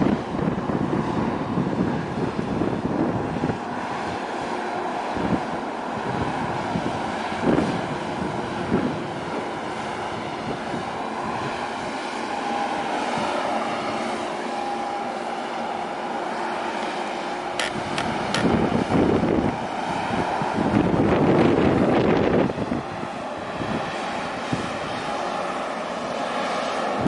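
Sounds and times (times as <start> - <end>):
steady hum: 0.0 - 27.0
wind buffeting microphone: 0.0 - 27.0.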